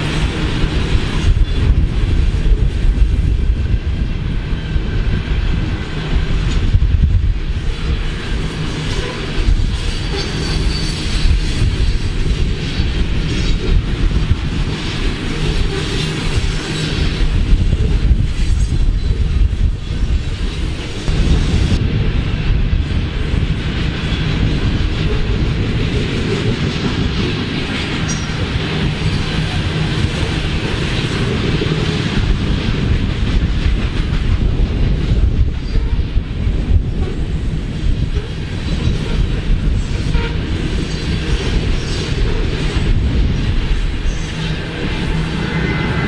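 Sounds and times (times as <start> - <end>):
train wheels clickety-clack on rails: 0.0 - 46.0
wind buffeting microphone: 0.0 - 46.0.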